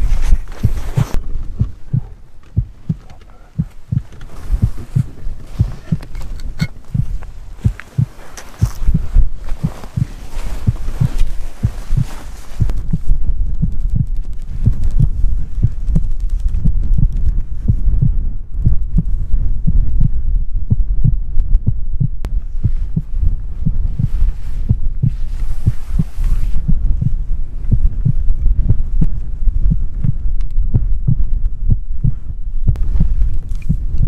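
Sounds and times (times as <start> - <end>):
heartbeat thuds: 0.0 - 34.0.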